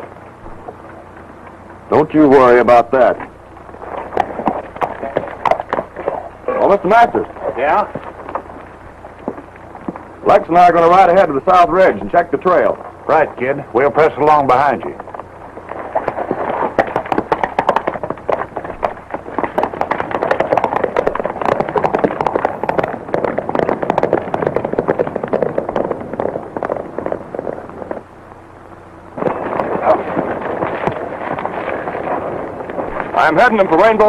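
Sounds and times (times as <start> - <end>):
horses galloping: 0.0 - 34.0.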